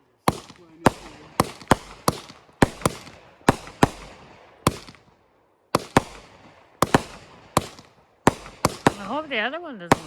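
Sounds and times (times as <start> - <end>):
fireworks bangs: 0.2 - 5.2, 5.8 - 10.0.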